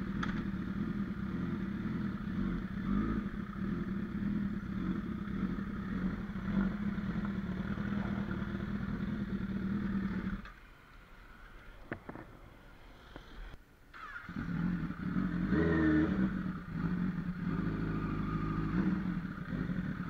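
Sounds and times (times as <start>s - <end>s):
motorcycle engine running at low revs: 0.0s - 10.5s, 14.2s - 20.0s.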